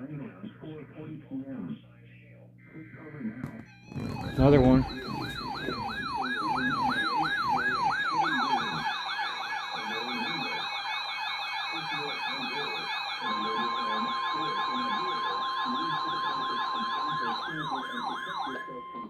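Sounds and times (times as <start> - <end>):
higher siren wavering: 2.7 - 19.0
emergency siren wailing and yelping: 3.7 - 19.0.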